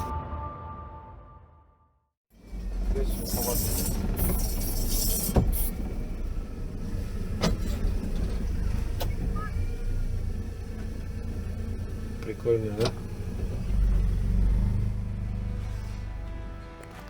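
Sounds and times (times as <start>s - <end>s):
atv engine rumbling: 2.5s - 16.5s.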